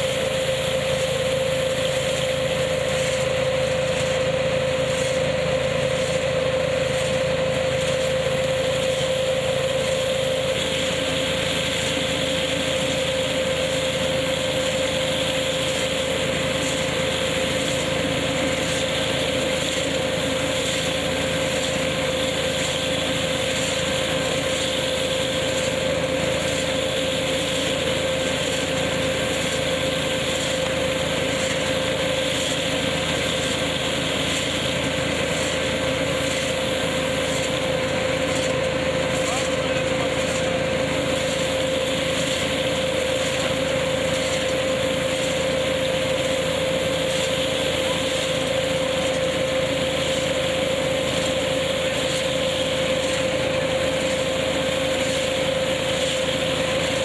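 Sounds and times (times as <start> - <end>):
nut picking machine running: 0.0 - 57.0
tractor engine humming: 0.0 - 57.0.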